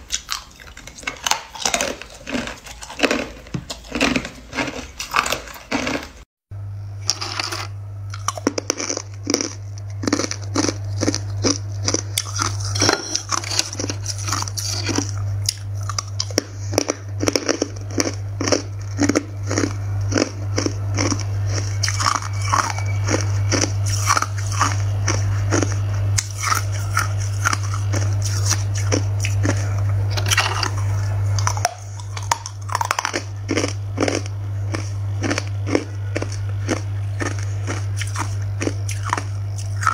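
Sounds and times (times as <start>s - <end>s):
steady low hum: 0.0s - 39.9s
ice being chewed: 0.1s - 6.3s, 7.0s - 39.9s.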